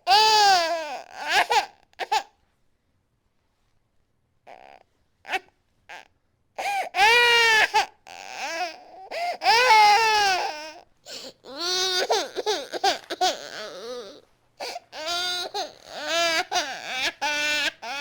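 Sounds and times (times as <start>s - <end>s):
infant crying: 0.0s - 2.3s, 4.5s - 18.0s.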